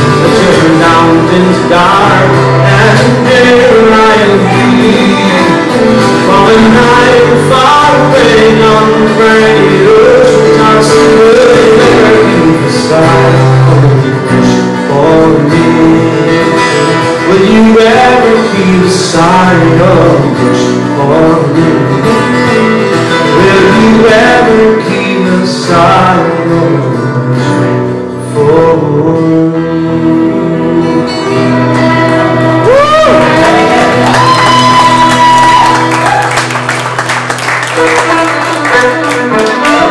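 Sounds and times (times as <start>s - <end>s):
live country band music: 0.0s - 39.9s.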